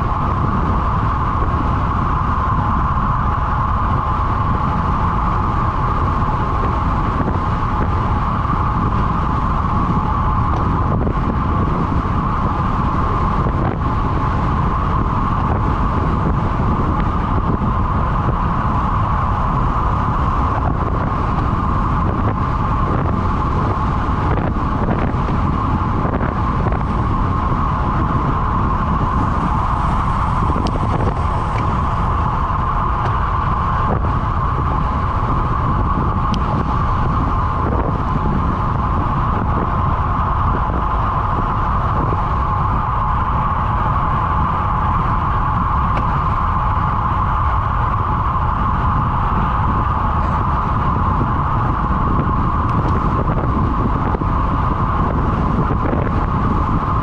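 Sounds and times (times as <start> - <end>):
continuous hum: 0.0 - 57.0
wind rushing over microphone: 0.0 - 57.0.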